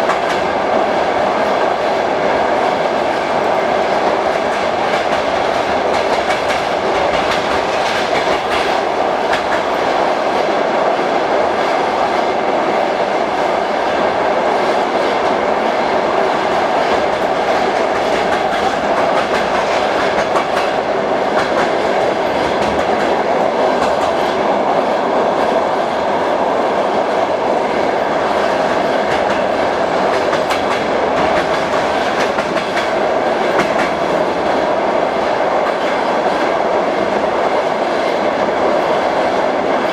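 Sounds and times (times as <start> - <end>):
rail joint clicks: 0.0 - 39.9
train wheels rumbling on rails: 0.0 - 39.9.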